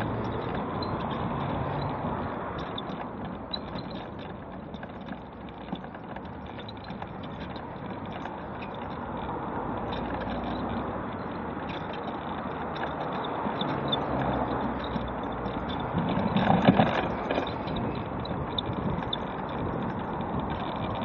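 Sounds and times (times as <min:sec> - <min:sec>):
mobility scooter rolling on paving: 0:00.0 - 0:21.0
small clicks and knocks: 0:00.0 - 0:21.0
street traffic: 0:00.0 - 0:21.0.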